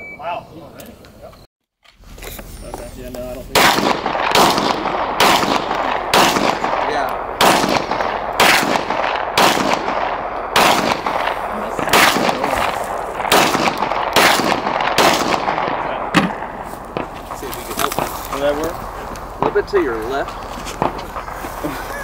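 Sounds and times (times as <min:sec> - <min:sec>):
rifle shots with echo: 0:03.5 - 0:21.7.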